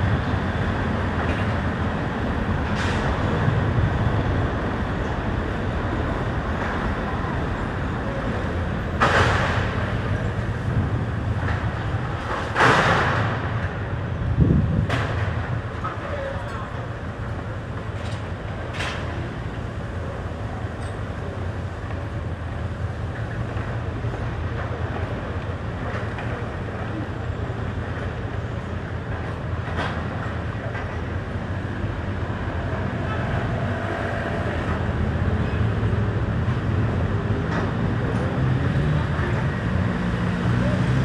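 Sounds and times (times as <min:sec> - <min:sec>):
low rumble of vehicles: 0:00.0 - 0:41.0.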